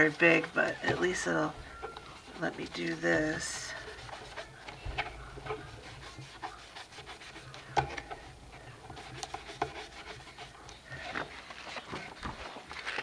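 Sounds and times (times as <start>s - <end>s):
paper rustling and scraping: 0.0s - 13.0s.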